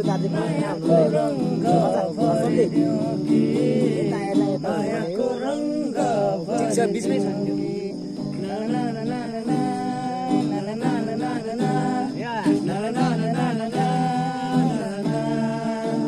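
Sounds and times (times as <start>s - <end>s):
acoustic guitar playing: 0.0s - 16.0s
person singing: 0.0s - 16.0s.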